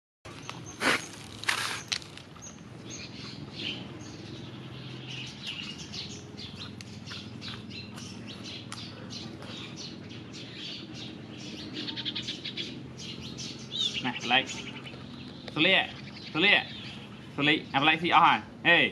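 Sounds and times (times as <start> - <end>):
small birds chirping: 0.3 - 18.9.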